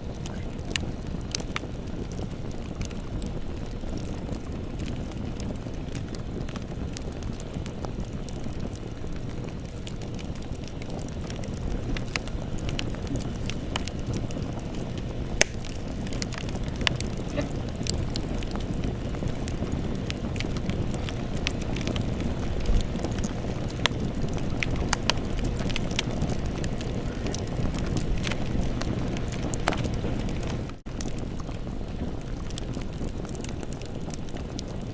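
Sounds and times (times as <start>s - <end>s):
fire crackles and pops: 0.0s - 34.9s
low rush of flames: 0.0s - 34.9s.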